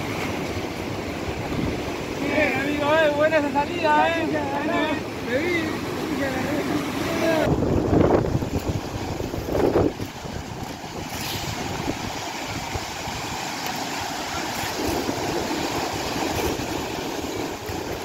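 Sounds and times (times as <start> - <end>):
surf washing up a beach: 0.0 - 18.0.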